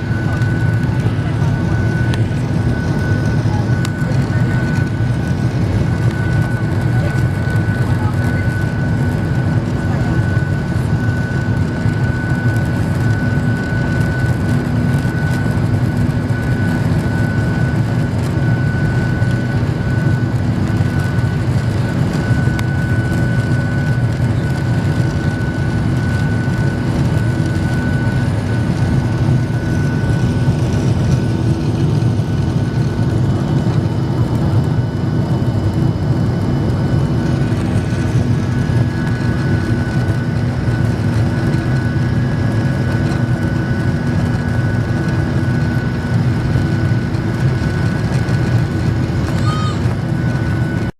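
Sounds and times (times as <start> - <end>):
jet engine whine: 0.0 - 50.9
jet engines roaring: 0.0 - 50.9.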